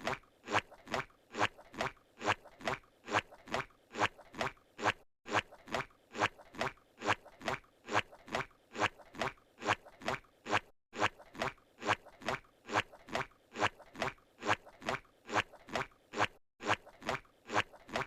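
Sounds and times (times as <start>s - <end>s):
squishy cartoon footsteps: 0.0s - 18.0s.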